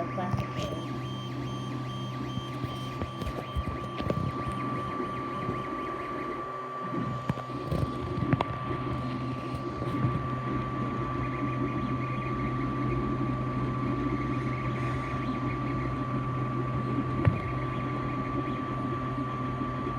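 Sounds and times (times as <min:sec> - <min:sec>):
printer humming and whining: 0:00.0 - 0:19.9.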